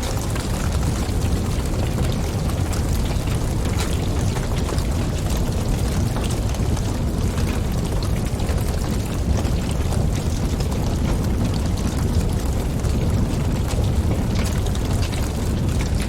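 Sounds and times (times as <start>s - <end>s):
fire crackling and popping: 0.0s - 16.0s
fire flames rumbling: 0.0s - 16.0s
wind: 0.0s - 16.0s.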